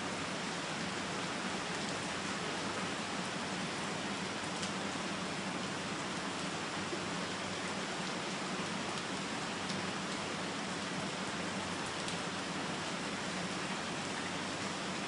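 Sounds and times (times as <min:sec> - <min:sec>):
rain falling on leaves: 0:00.0 - 0:15.0.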